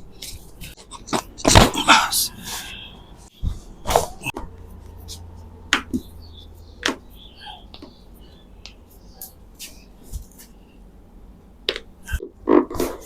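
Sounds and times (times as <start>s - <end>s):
joints cracking: 0.0s - 13.0s.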